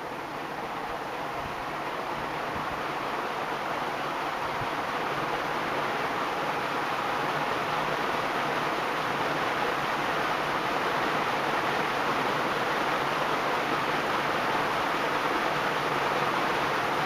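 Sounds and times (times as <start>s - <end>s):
ceiling fan rush of air: 0.0s - 17.0s.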